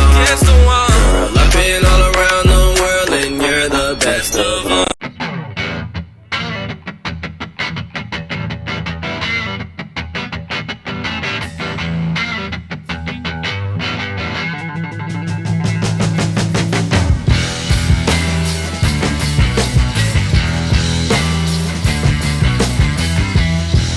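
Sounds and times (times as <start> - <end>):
distorted electric guitar music: 0.0 - 23.9.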